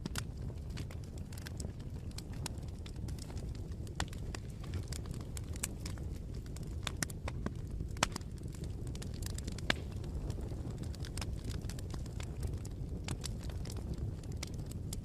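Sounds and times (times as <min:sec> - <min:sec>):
bonfire crackling and popping: 0:00.0 - 0:15.0
low rumble of flames: 0:00.0 - 0:15.0.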